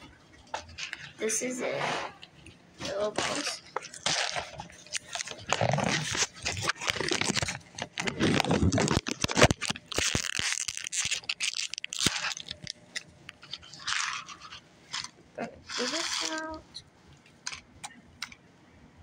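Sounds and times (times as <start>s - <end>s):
crinkling and rustling handling noise: 0.0s - 18.4s.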